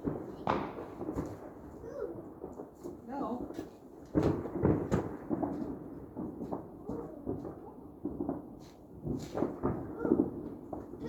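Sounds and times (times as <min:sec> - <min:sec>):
fireworks banging and rumbling: 0:00.0 - 0:11.0.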